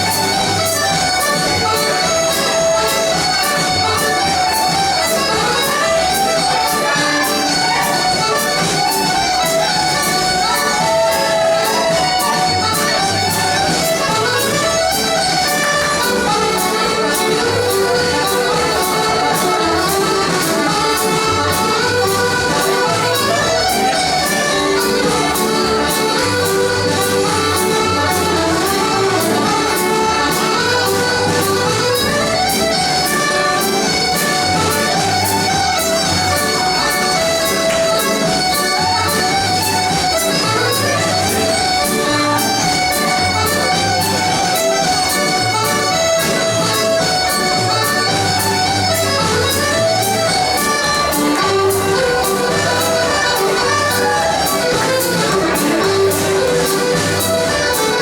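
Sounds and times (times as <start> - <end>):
accordion: 0.0 - 58.0
dance band playing lively tune: 0.0 - 58.0.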